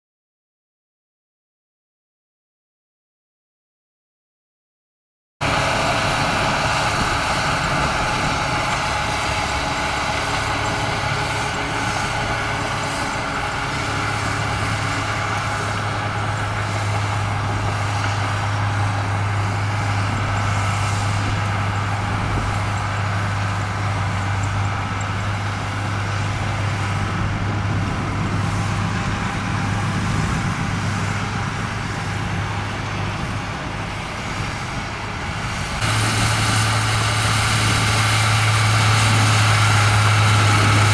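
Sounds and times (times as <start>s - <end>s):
bulldozer diesel engine running: 5.4s - 40.9s.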